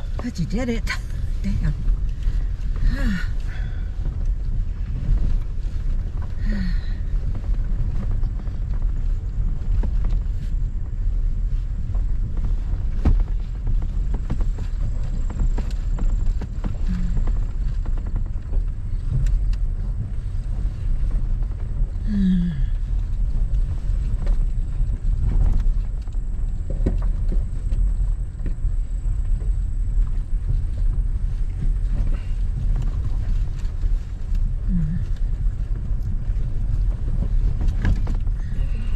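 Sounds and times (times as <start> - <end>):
truck engine rumble: 0.0 - 38.9.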